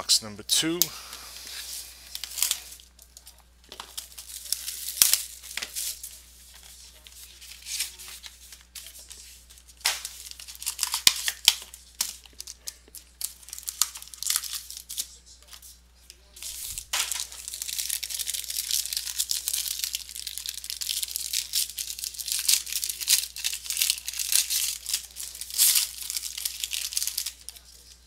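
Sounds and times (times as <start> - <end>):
plastic wrapping tearing and crinkling: 1.4 - 15.6, 16.4 - 28.0.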